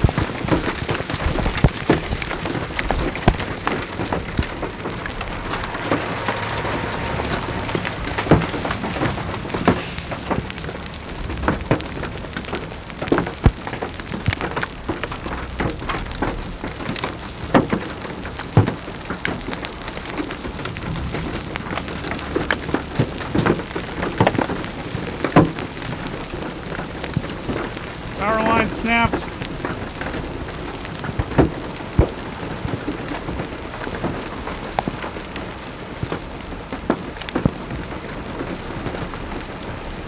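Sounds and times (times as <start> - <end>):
rain hissing on a vehicle: 0.0 - 40.0
raindrops hitting glass: 0.0 - 40.0.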